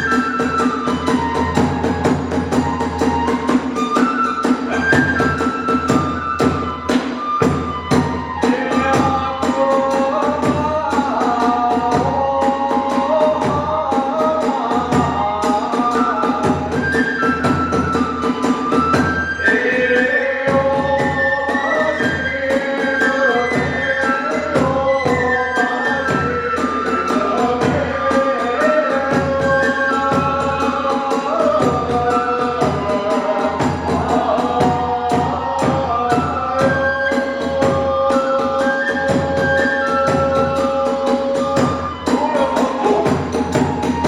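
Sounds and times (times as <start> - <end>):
bamboo flute melody: 0.0 - 9.8, 15.0 - 30.9, 31.5 - 44.0
fast drum beats: 0.0 - 44.0.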